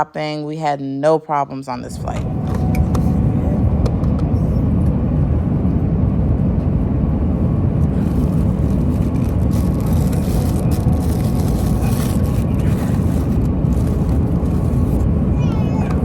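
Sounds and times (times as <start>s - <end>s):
jet cabin engine rumble: 1.7s - 16.0s.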